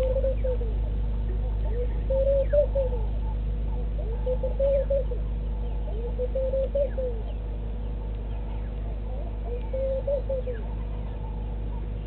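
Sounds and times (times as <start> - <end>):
dove cooing: 0.0 - 7.7, 8.3 - 12.0
steady low hum: 0.0 - 12.0.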